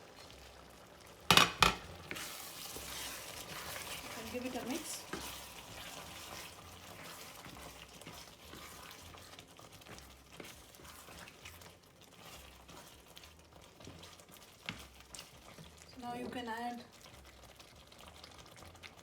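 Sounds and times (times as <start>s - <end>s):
sauce bubbling in a pan: 0.0s - 19.0s.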